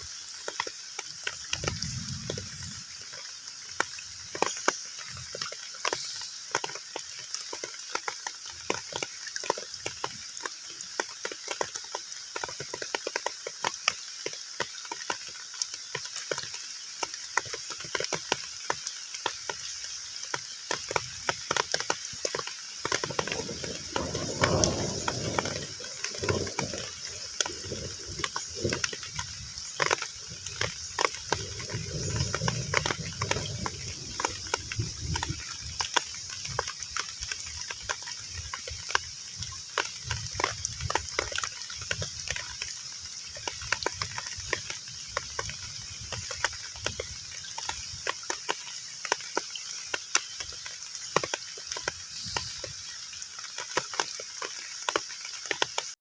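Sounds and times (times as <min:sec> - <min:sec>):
heavy rain on pond: 0:00.0 - 0:56.0.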